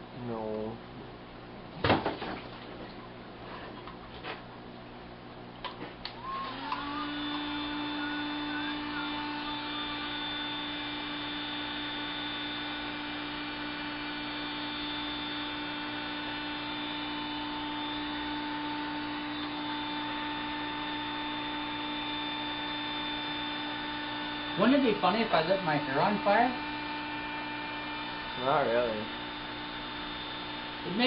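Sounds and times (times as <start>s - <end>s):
heat gun humming and whining: 5.8s - 31.0s.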